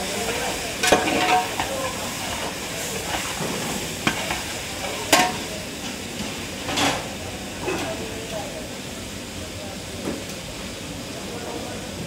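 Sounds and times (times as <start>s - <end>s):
steady sizzling hiss: 0.0s - 12.0s.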